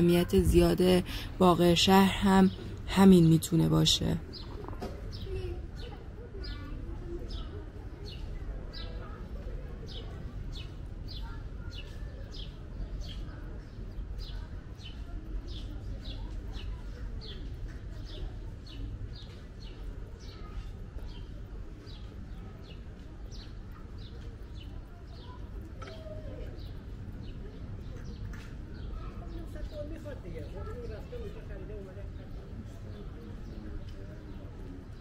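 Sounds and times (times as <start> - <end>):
low street rumble: 0.0 - 35.0.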